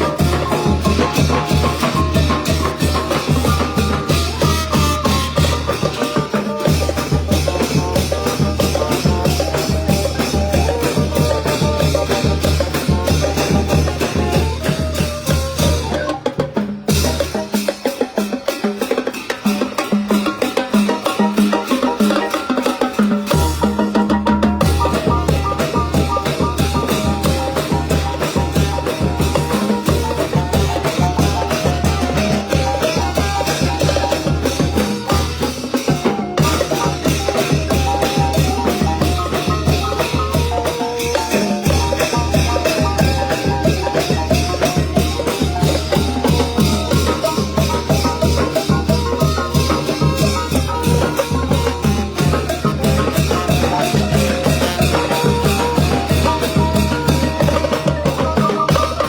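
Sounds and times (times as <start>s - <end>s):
brass band playing lively tune: 0.0s - 59.0s
percussion strokes: 0.0s - 59.0s
steady drum beat: 0.0s - 59.0s.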